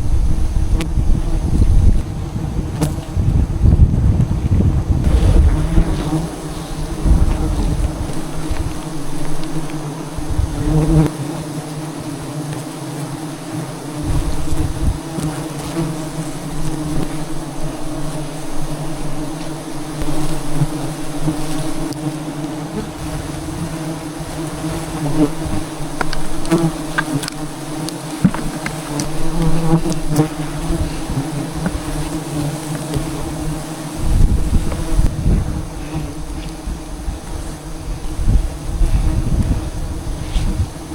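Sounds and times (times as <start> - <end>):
bees buzzing: 0.4 - 40.9.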